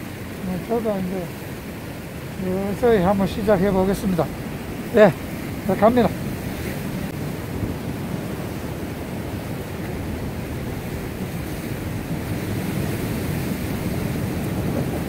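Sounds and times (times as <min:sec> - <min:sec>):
surf breaking on rocky shore: 0:00.0 - 0:15.0
wind buffeting microphone: 0:00.0 - 0:15.0.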